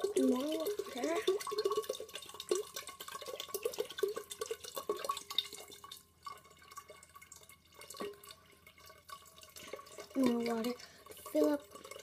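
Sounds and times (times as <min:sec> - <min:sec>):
water pouring into a bowl: 0:00.0 - 0:12.0.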